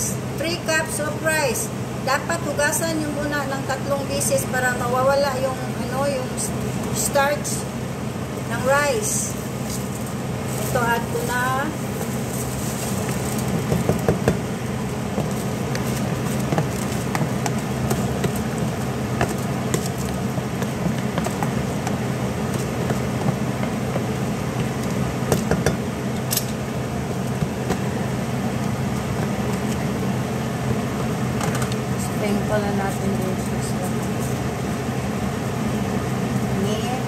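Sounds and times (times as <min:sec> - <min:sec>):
low fan hum: 0:00.0 - 0:37.0.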